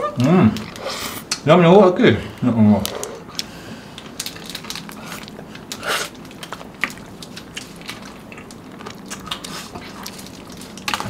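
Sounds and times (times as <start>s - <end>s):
chewing ice cream bars: 0.0s - 1.4s, 2.4s - 11.0s.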